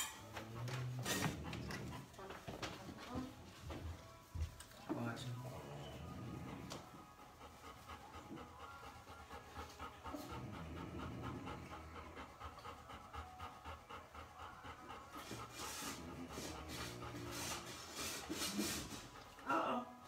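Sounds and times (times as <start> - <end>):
puppies panting: 0.0 - 19.4.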